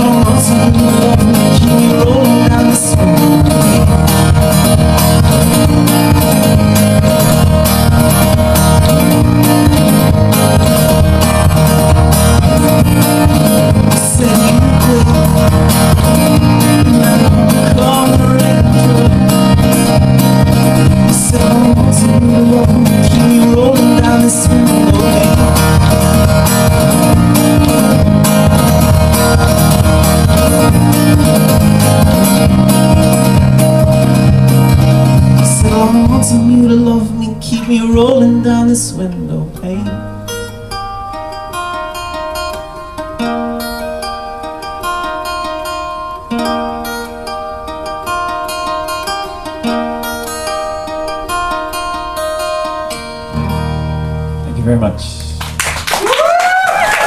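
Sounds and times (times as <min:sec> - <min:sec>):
acoustic guitar strummed hard: 0:00.0 - 0:57.0.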